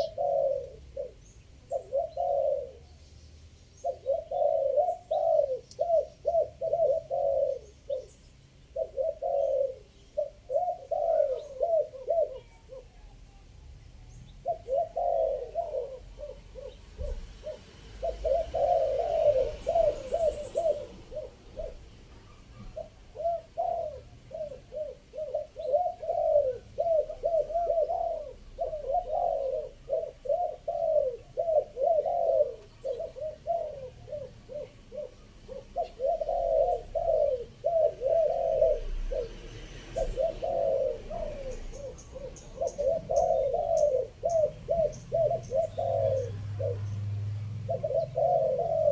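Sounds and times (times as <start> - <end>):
doves cooing: 0.0 - 3.0, 3.8 - 13.3, 14.1 - 48.9.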